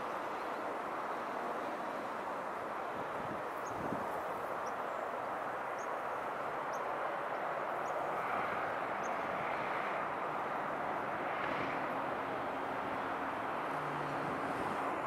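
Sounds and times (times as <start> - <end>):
jet airliner engines roaring: 0.0 - 15.0.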